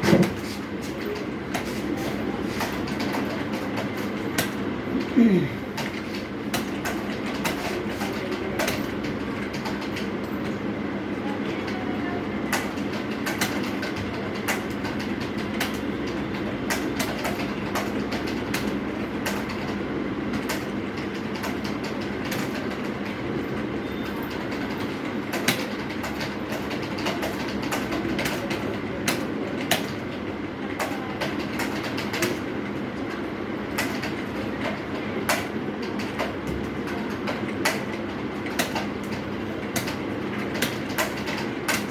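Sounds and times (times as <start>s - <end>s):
computer keyboard typing: 5.8s - 10.5s, 11.5s - 41.9s.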